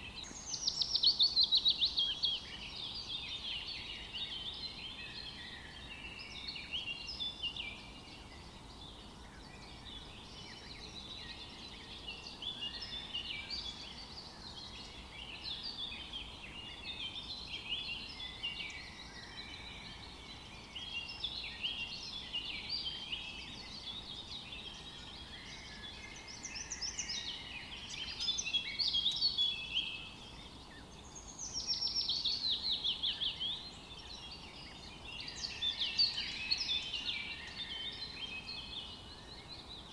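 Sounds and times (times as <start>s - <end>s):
faint steady hiss: 0.0s - 39.9s
songbirds chirping and singing: 0.0s - 39.9s.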